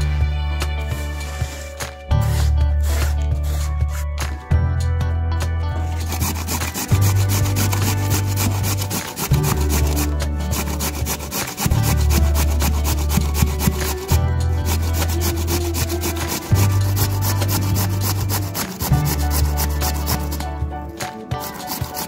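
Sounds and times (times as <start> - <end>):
background music with bass: 0.0 - 22.0
potato grating rasps: 0.9 - 4.4, 5.8 - 22.0.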